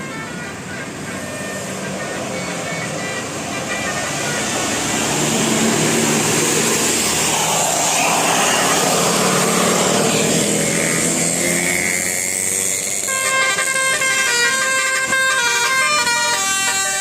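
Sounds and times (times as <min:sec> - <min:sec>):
diesel bus driving past: 0:00.0 - 0:17.0
road noise: 0:00.0 - 0:17.0.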